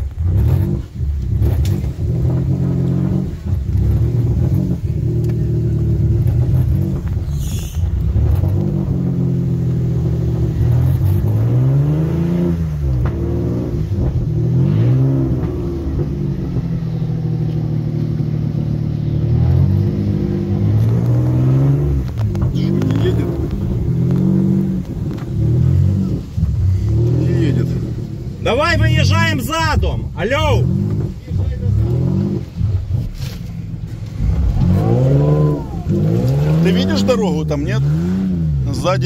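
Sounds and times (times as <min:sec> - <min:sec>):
off-road vehicle engine revving: 0:00.0 - 0:39.0
vehicle driving through water: 0:00.0 - 0:39.0.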